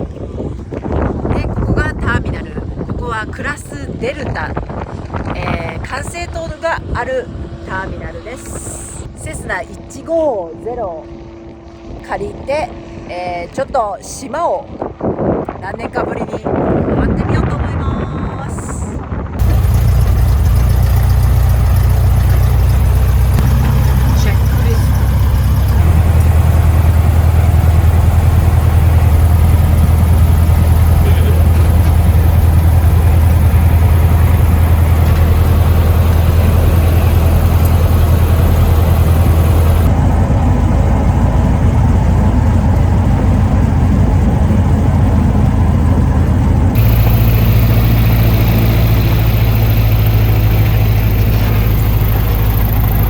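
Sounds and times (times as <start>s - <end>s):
small plane engine drone: 2.3s - 15.6s, 18.5s - 53.0s.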